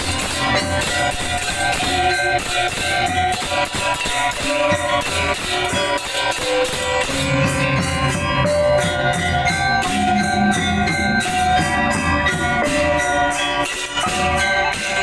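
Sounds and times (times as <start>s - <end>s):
drums: 0.0s - 15.0s
metallophones ringing: 0.0s - 15.0s
small cymbals: 0.0s - 15.0s.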